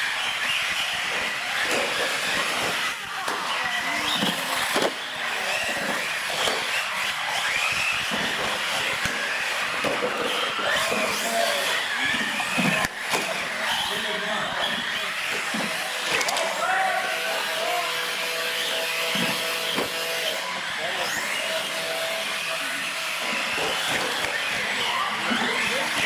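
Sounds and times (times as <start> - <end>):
background chatter: 0.0 - 26.0
electric toy truck motors whining: 0.0 - 26.0.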